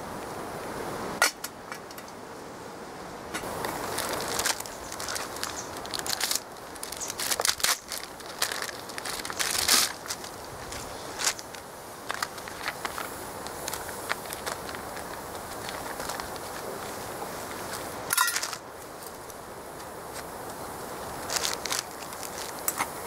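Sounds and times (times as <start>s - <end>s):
foil pouch crinkling: 3.4s - 20.3s, 21.0s - 23.0s.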